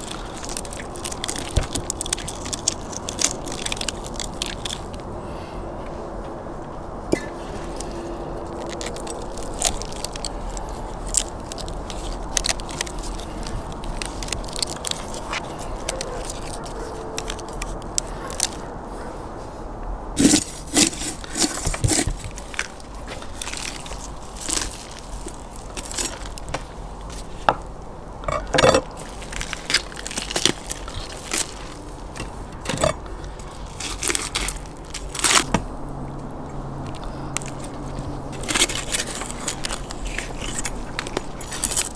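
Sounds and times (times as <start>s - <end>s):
meat tearing apart: 0.0s - 5.1s, 7.5s - 18.6s, 20.2s - 27.3s, 28.6s - 35.6s, 36.8s - 41.9s
crust crackling: 0.0s - 5.5s, 7.1s - 18.8s, 20.2s - 41.9s.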